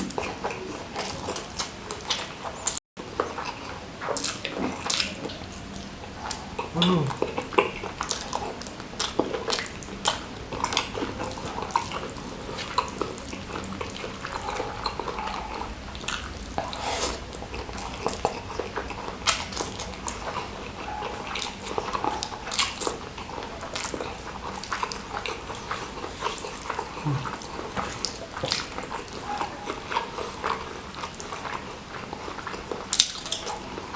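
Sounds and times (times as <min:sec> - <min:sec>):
wet chewing and mouth sounds: 0:00.0 - 0:33.9.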